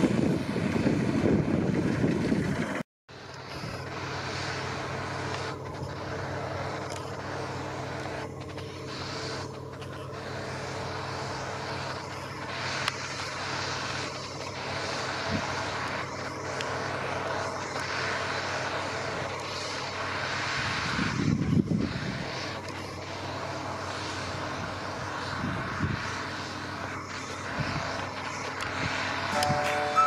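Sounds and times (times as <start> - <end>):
combine harvester droning: 0.0 - 30.0.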